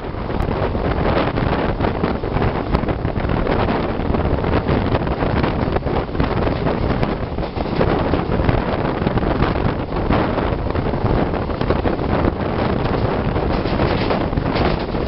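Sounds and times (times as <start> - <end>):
train rumbling at speed: 0.0 - 15.0
wind buffeting microphone: 0.0 - 15.0.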